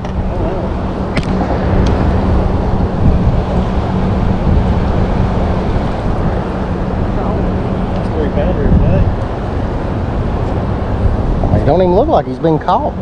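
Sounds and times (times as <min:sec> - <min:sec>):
boat motor humming: 0:00.0 - 0:13.0
wind buffeting microphone: 0:00.0 - 0:13.0.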